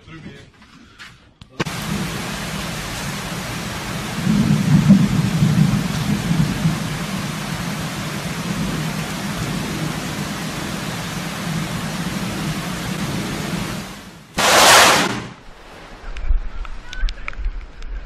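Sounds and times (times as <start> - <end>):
loud burst of noise: 1.6 - 17.0
heavy rain pouring: 1.6 - 17.4
thunder rumbling: 1.7 - 17.4.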